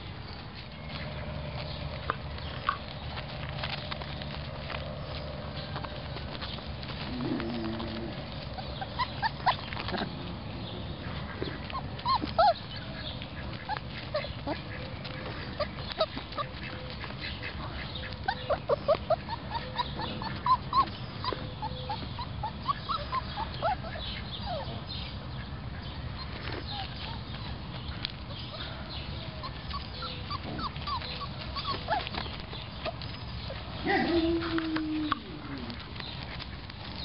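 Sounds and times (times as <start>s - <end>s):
puppies squeaking and yipping: 0.4s - 37.0s.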